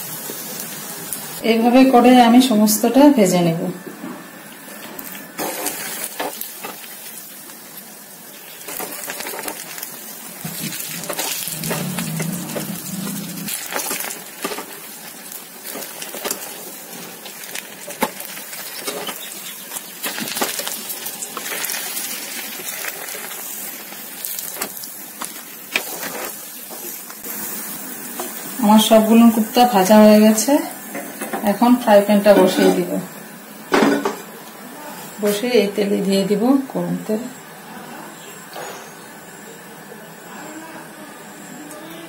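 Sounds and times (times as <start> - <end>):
oil sizzling: 0.0 - 3.6, 4.2 - 37.6.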